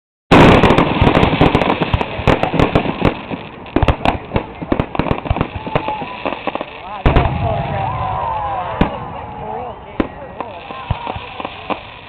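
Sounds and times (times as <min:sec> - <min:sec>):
fireworks cracking and banging: 0:00.3 - 0:12.0.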